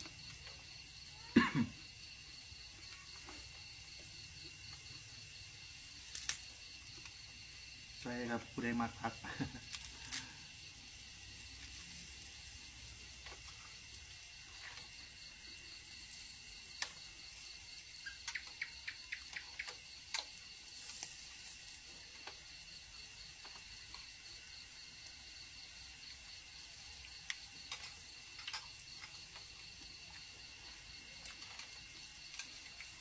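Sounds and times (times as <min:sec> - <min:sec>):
night insects chirring: 0:00.0 - 0:33.0
meat sizzling on a grill pan: 0:01.8 - 0:33.0.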